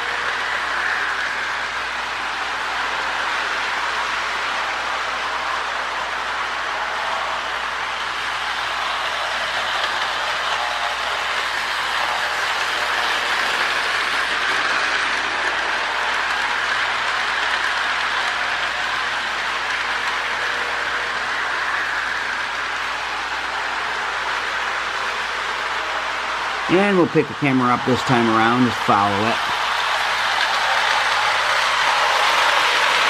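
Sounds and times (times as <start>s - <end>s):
toy train motor whirring: 0.0s - 26.6s, 29.1s - 33.0s.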